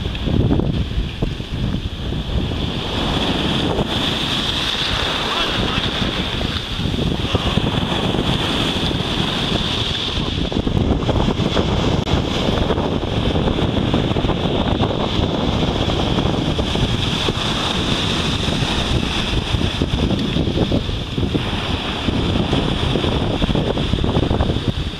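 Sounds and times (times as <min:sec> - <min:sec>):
waves breaking on beach: 0:00.0 - 0:24.9
wind buffeting microphone: 0:00.0 - 0:24.9.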